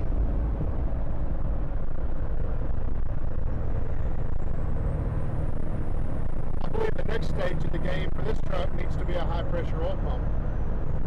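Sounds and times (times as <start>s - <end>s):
low engine drone: 0.0s - 11.0s
road and wind noise: 0.0s - 11.0s.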